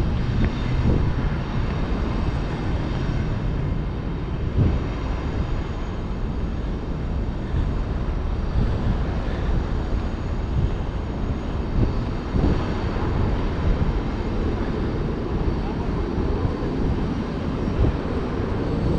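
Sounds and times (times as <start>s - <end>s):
low street rumble: 0.0s - 18.9s
wind buffeting microphone: 0.0s - 18.9s.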